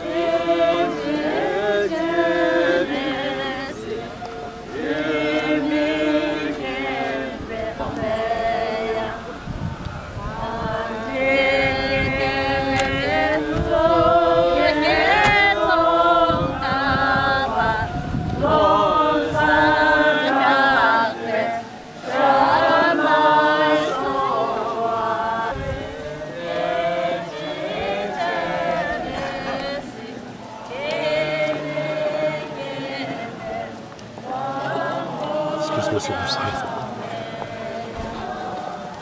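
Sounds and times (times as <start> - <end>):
group chanting prayer: 0.0 - 39.0.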